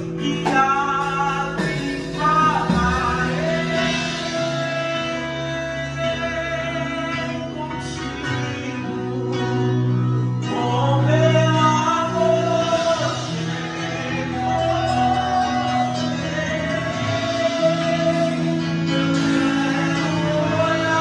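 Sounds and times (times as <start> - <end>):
electronic keyboard chords: 0.0 - 21.0.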